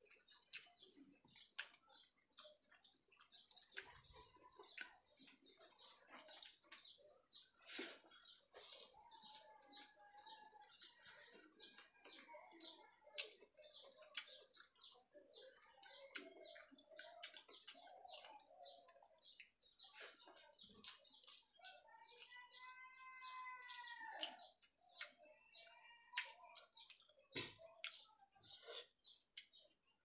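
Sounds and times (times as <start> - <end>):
chewing and eating sounds: 0.0 - 30.0
small birds chirping: 0.0 - 30.0.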